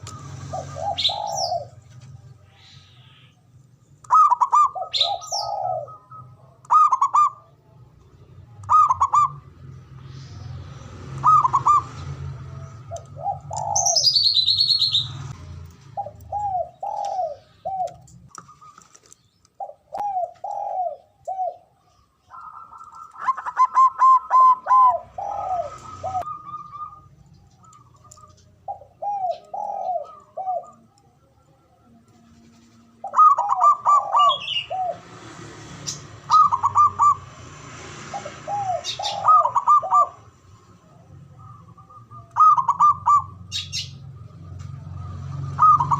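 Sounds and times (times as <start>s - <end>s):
dove cooing: 0.0s - 3.3s, 4.0s - 7.7s, 8.6s - 9.5s, 11.1s - 31.2s, 32.8s - 35.1s, 36.2s - 37.3s, 38.0s - 45.9s.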